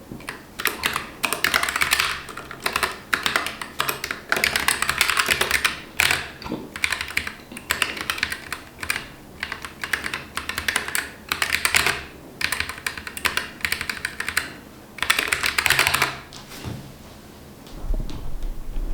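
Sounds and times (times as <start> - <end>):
mechanical keyboard typing: 0.2 - 16.2.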